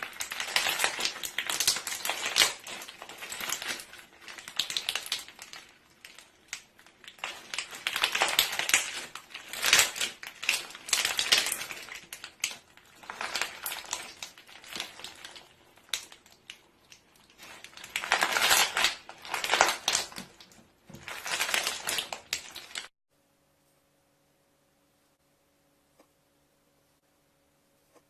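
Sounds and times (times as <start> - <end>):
slime crackling and popping: 0.0 - 22.9.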